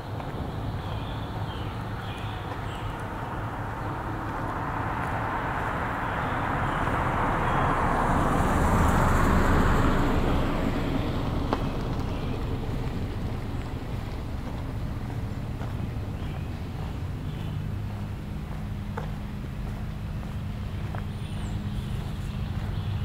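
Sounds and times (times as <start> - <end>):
car driving past: 0.4 - 23.0.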